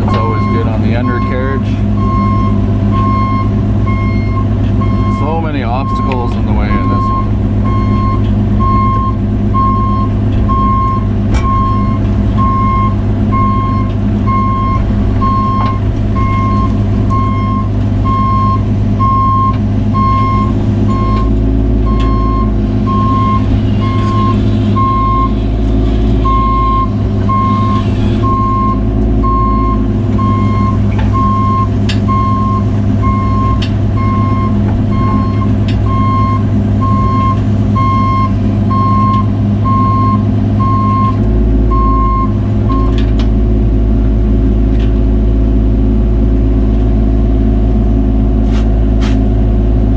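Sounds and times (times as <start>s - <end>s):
travel alarm beeping: 0.0s - 25.4s, 26.2s - 43.0s
diesel engine running: 0.0s - 49.9s.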